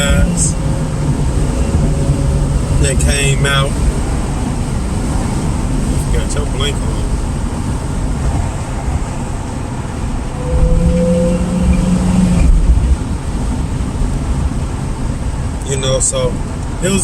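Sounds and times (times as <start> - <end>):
car engine drone: 0.0 - 16.9
road noise inside car: 0.0 - 17.0.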